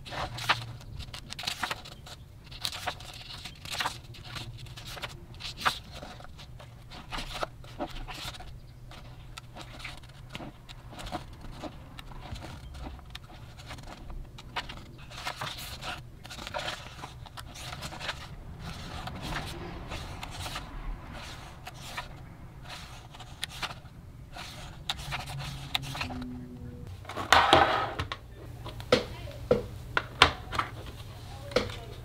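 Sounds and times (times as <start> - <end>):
paper pages rustling: 0.0 - 26.4.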